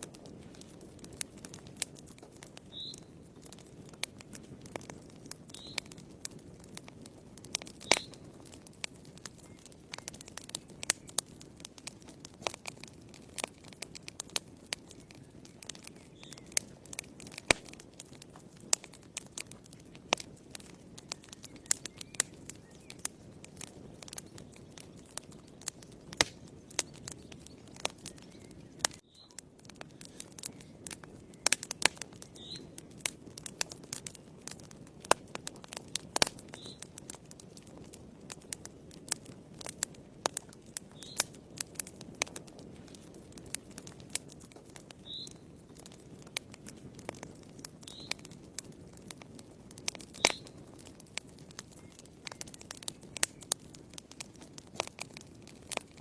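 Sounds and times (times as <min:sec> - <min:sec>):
fire crackling and popping: 0:00.0 - 0:56.0
low rustle of flames: 0:00.0 - 0:56.0.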